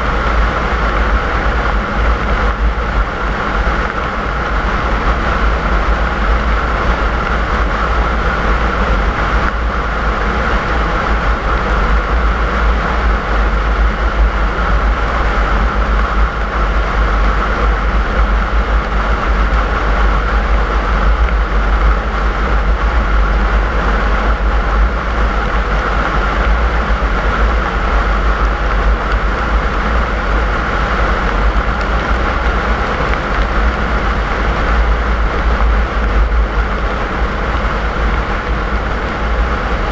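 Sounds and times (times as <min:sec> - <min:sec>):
car driving road and engine noise: 0:00.0 - 0:39.9.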